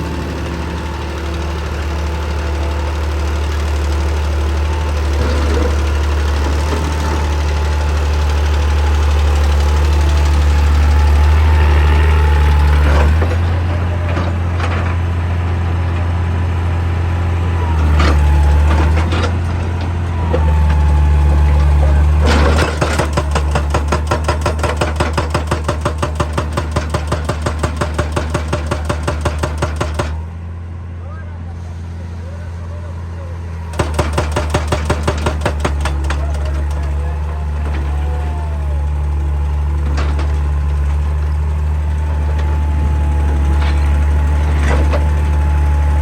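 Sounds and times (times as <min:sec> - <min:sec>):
hydraulic breaker hammering rock: 0:00.0 - 0:15.2, 0:17.6 - 0:30.3, 0:33.7 - 0:46.0
diesel engine running: 0:00.0 - 0:46.0.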